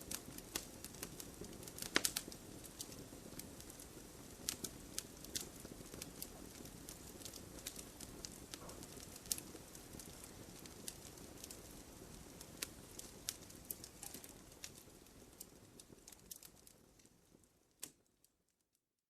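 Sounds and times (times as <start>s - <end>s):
low rush of flame: 0.0s - 17.7s
firewood crackling and popping: 0.0s - 18.6s.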